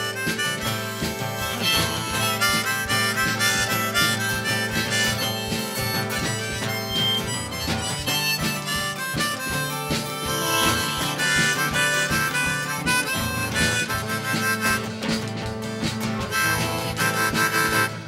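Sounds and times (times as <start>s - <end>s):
harmonica solo: 0.0s - 18.0s
strummed acoustic guitar: 0.0s - 18.0s.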